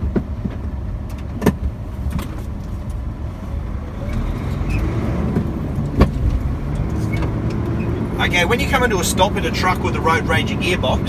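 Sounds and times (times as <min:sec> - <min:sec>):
road noise: 0:00.0 - 0:11.0
truck diesel engine running: 0:00.0 - 0:11.0.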